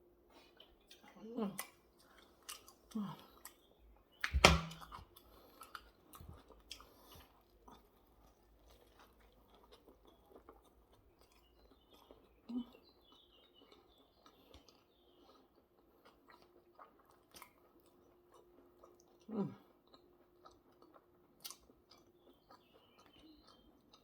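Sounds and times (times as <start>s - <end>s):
person chewing food: 0.2s - 24.0s.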